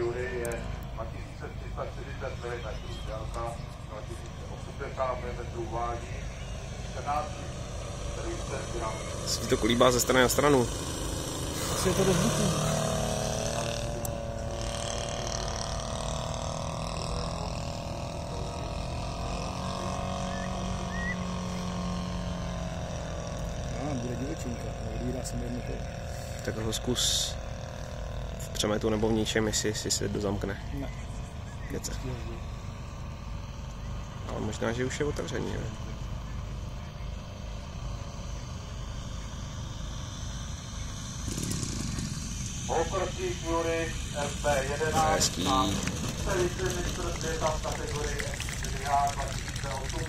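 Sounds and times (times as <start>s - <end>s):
model airplane engine running: 0.0s - 50.0s.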